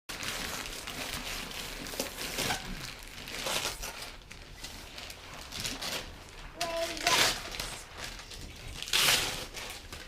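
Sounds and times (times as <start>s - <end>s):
wrapping paper rustling and tearing: 0.1s - 10.0s.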